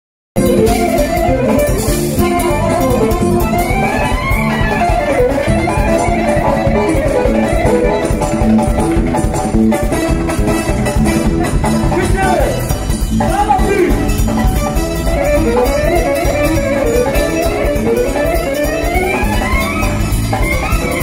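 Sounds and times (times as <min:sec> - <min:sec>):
drum kit: 0:00.4 - 0:21.0
live folk band music: 0:00.4 - 0:21.0
ornamented lead melody: 0:00.4 - 0:21.0.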